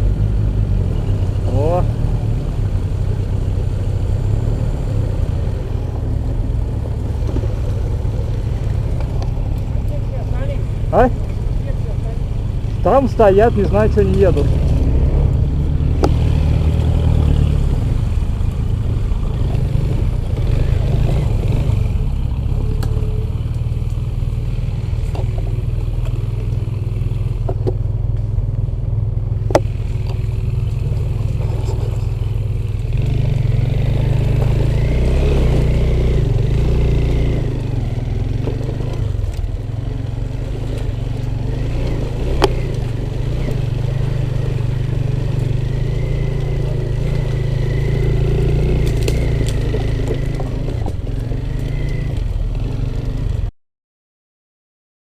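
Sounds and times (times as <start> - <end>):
motorcycle engine at low revs: 0.0 - 53.5.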